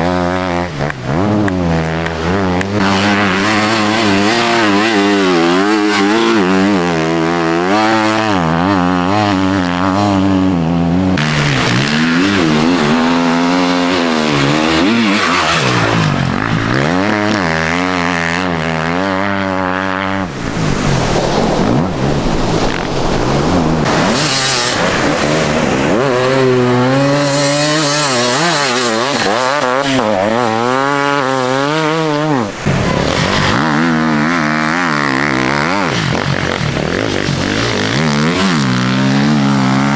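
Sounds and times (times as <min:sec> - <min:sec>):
motorcycles revving hard: 0:00.0 - 0:39.9.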